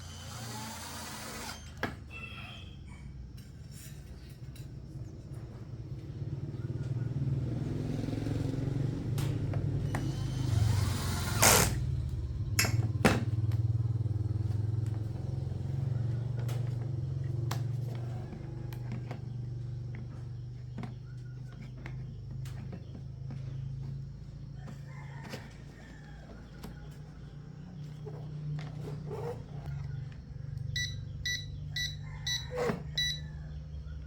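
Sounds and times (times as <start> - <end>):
small engine running: 0.0 - 1.8, 5.6 - 33.3.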